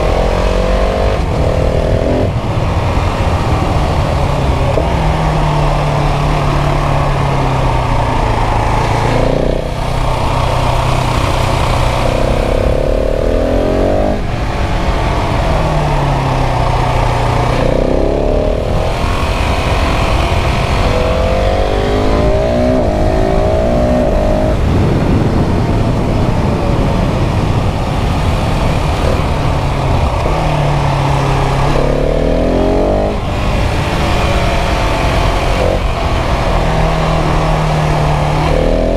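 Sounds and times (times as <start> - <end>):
motorcycle engine revving: 0.0 - 38.9
wind noise: 0.0 - 38.9.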